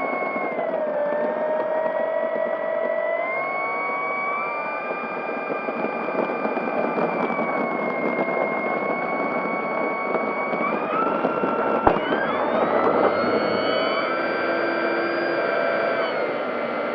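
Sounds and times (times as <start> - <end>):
model plane motor whining: 0.0 - 16.9.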